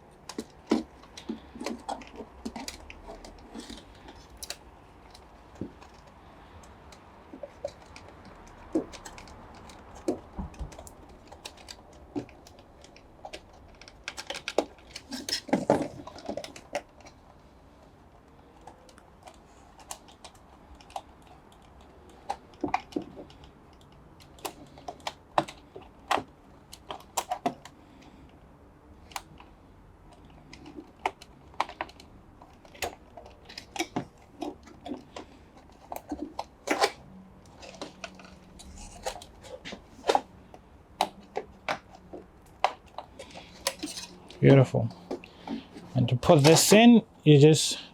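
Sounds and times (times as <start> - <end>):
hands clicking and tapping parts: 0.0 - 47.0.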